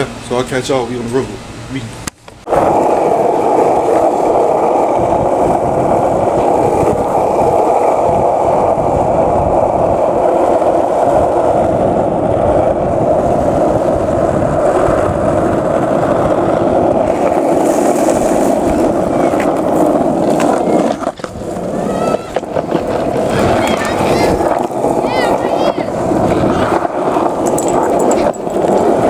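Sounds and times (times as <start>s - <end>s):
skateboard wheels rolling on pavement: 0.0s - 29.0s.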